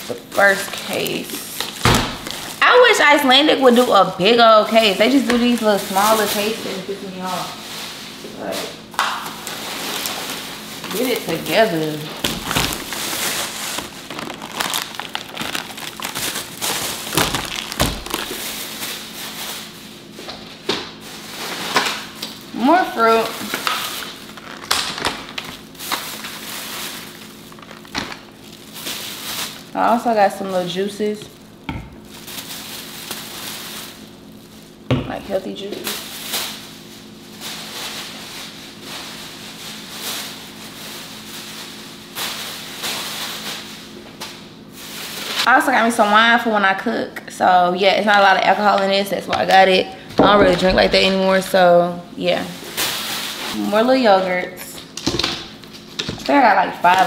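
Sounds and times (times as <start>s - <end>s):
grocery items being handled: 0.0s - 44.0s, 48.0s - 57.0s
plastic bag rustling: 0.0s - 45.6s, 48.1s - 57.0s.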